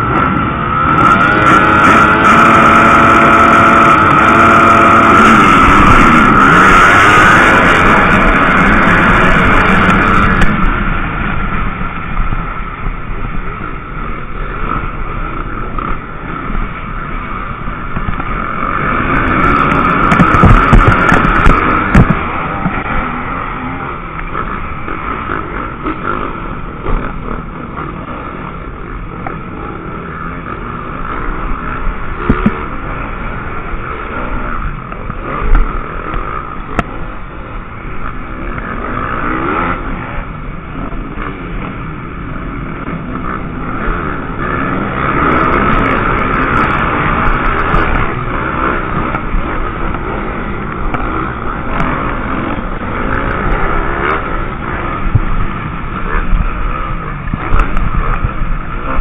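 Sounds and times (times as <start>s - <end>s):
motocross bike engine revving: 0.0s - 59.0s
other motocross bikes racing: 0.0s - 59.0s.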